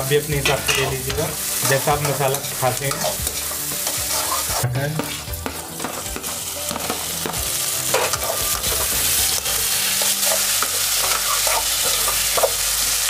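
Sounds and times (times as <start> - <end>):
vegetables sizzling in oil: 0.0 - 13.0
metal spatula scraping pan: 0.4 - 12.6.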